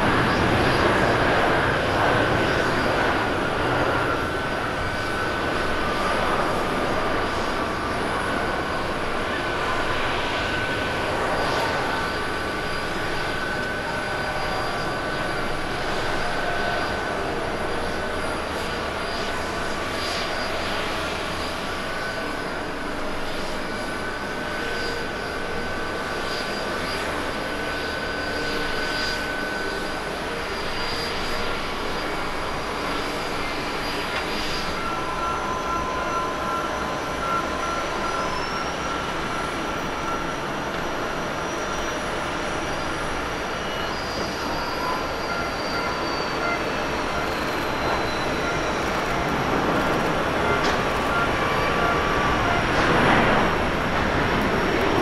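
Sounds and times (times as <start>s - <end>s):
high engine whines: 0.0s - 55.0s
jet engines rushing: 0.0s - 55.0s.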